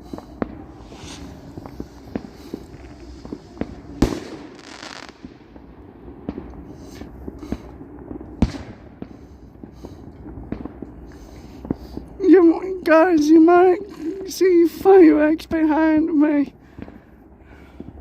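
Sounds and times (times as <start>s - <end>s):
crackling hiss: 0.0s - 15.3s
fireworks pops and bangs: 0.0s - 17.1s.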